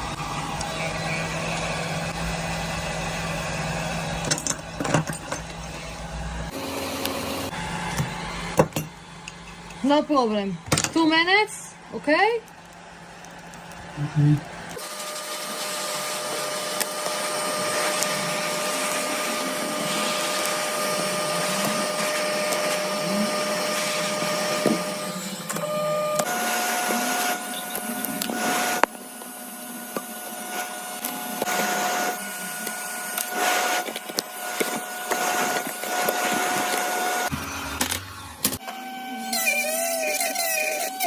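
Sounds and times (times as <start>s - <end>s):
electric blower motor whining: 0.0s - 41.0s.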